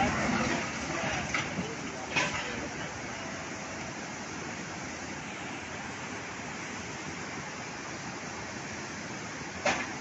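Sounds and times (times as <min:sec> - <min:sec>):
river in flood rushing: 0:00.0 - 0:10.0.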